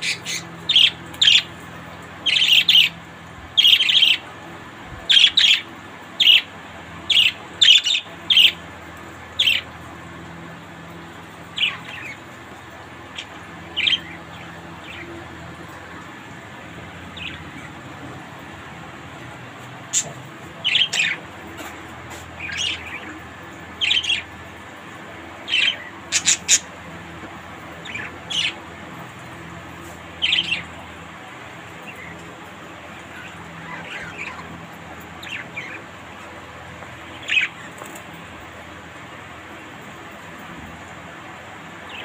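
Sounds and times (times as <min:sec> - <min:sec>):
budgerigars chirping and squawking: 0:00.0 - 0:10.0, 0:11.1 - 0:38.4, 0:41.8 - 0:42.0
faint steady hum: 0:00.0 - 0:42.0.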